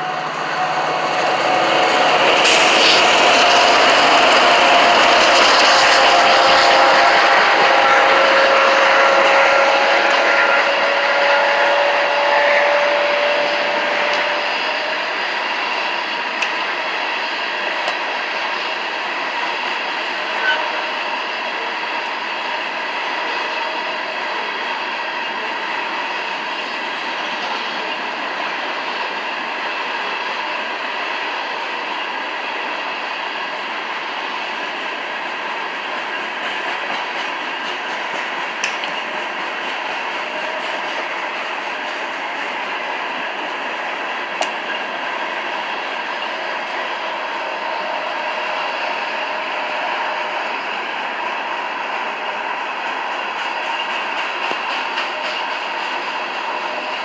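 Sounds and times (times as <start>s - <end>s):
freight train rail noise: 0.0s - 57.0s.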